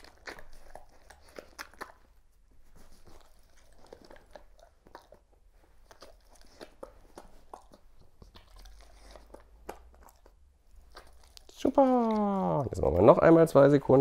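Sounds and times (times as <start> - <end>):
dog crunching treats: 0.0 - 2.2, 2.9 - 14.0.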